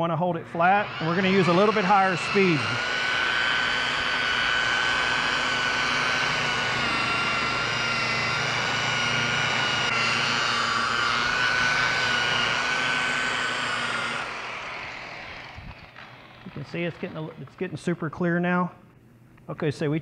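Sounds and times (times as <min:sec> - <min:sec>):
electric polisher motor whine: 0:00.6 - 0:17.4.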